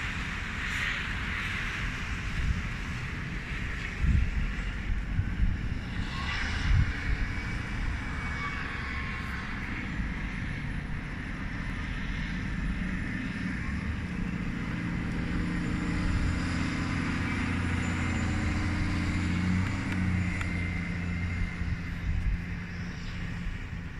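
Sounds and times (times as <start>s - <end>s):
vehicle engine rumble: 0.0s - 23.9s.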